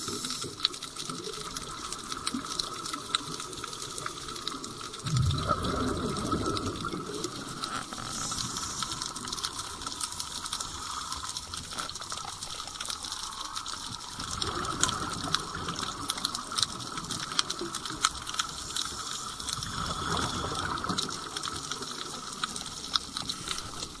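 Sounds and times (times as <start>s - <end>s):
crackle of small clicks: 0.0s - 24.0s
regulator bubbles gurgling underwater: 0.0s - 24.0s.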